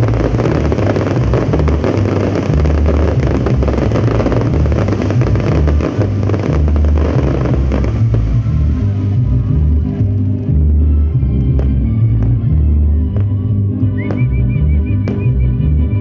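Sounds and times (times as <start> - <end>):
fireworks popping and crackling: 0.0 - 15.8
loud low pulsing rumble: 0.0 - 16.0.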